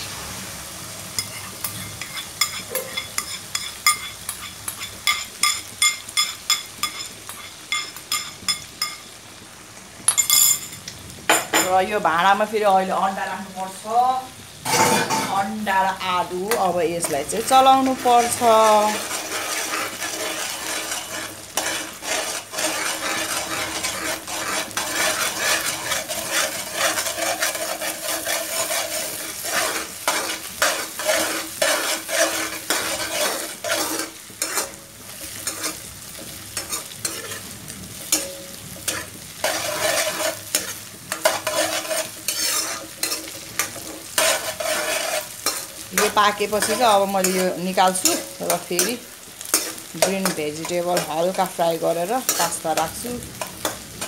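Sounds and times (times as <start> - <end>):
food sizzling in a wok: 0.0 - 54.0
metal spatula scraping a pan: 1.2 - 9.0, 14.6 - 15.5, 16.3 - 54.0.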